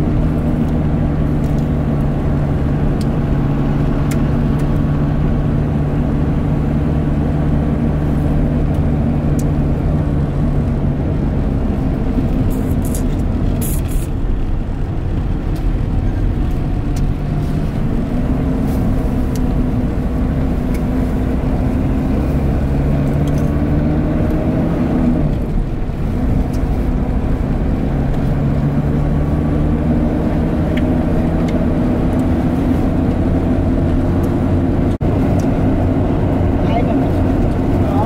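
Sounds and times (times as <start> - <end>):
vehicle engine rumbling: 0.0 - 38.0.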